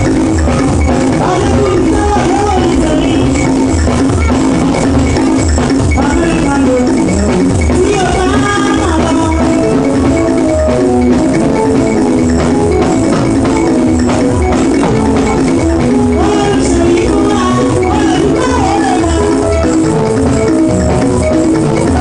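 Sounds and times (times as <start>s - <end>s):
gospel dance music: 0.0s - 22.0s.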